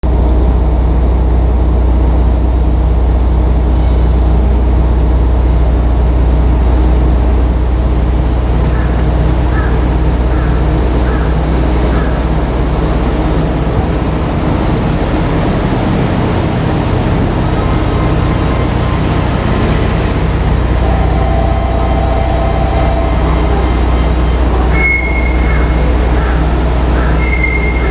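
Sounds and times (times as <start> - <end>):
diesel railcar engine drone: 0.0 - 27.9.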